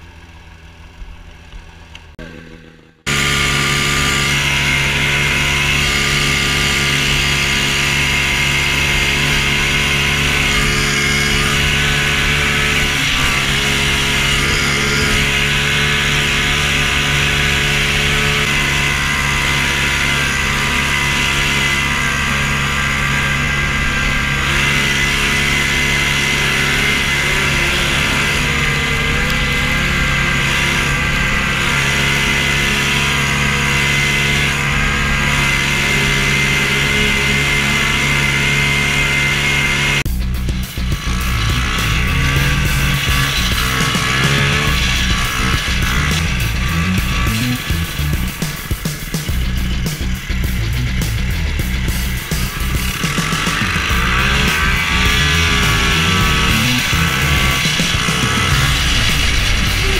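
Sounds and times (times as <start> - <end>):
snowmobile engine running hard: 0.0 - 59.9
rushing noise: 2.3 - 59.9.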